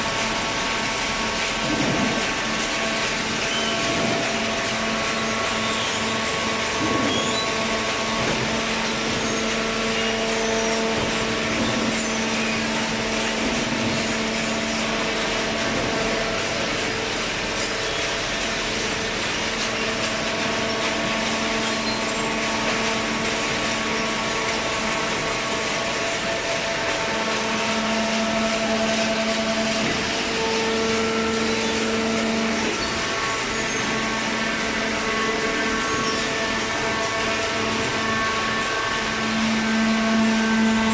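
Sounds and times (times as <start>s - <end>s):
constant hum: 0.0s - 40.9s.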